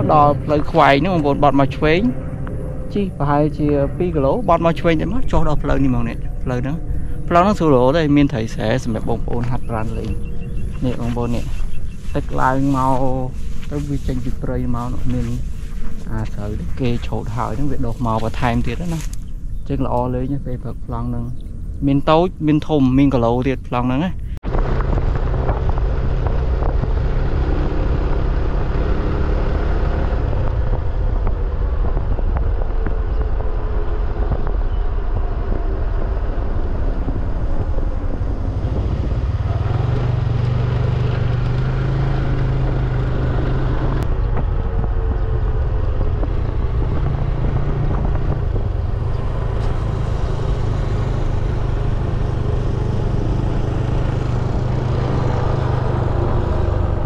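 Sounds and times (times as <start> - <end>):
vehicle engine running: 0.0 - 21.7, 24.2 - 57.0
wind rumbling on microphone: 0.0 - 57.0.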